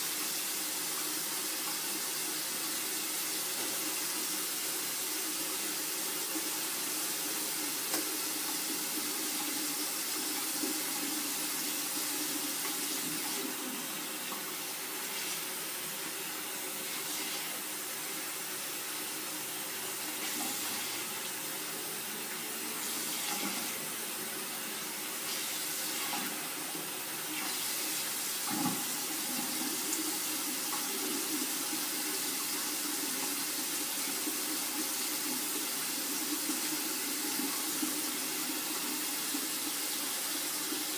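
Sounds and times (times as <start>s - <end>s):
tap water running into sink: 0.1s - 23.9s, 24.6s - 40.9s.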